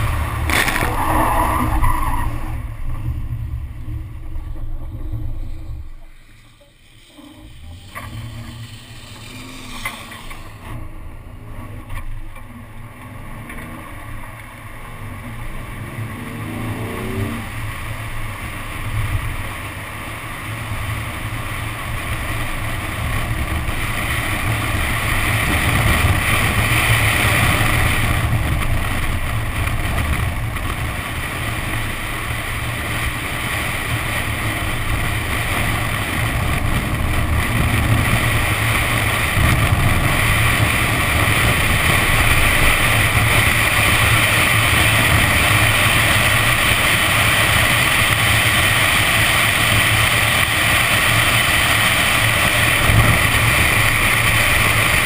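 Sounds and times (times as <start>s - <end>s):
rushing wind: 0.0s - 12.8s, 13.7s - 55.0s
car engine revving: 0.0s - 55.0s.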